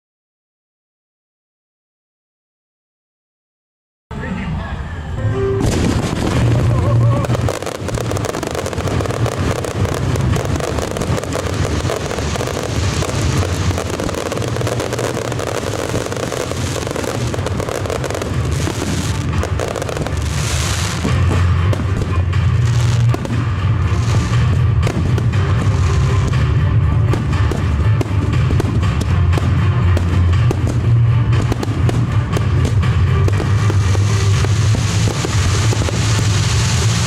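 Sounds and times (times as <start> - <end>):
fireworks bangs and booms: 5.6 - 37.0.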